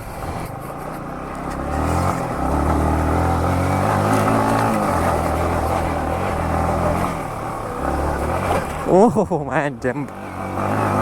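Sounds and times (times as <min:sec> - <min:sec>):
motorcycle engine under throttle: 0:00.0 - 0:09.1, 0:09.9 - 0:11.0.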